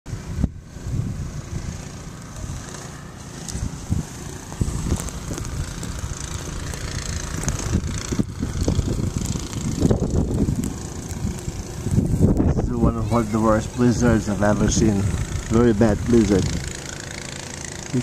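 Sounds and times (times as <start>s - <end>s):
wind buffeting microphone: 0.1s - 2.8s, 3.5s - 16.8s.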